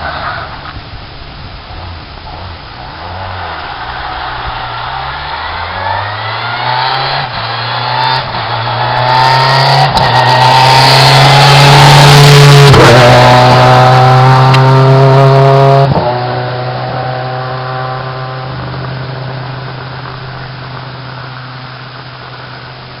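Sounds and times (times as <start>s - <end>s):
rally car engine passing: 1.7s - 22.4s.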